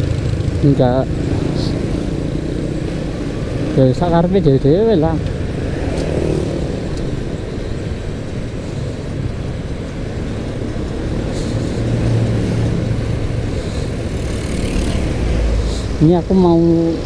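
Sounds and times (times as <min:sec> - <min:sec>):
motorcycle engine running: 0:00.0 - 0:16.8.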